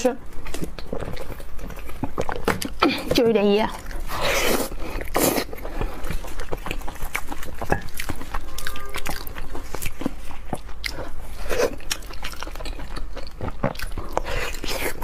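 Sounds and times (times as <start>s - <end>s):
wet chewing and smacking: 0.2s - 15.0s.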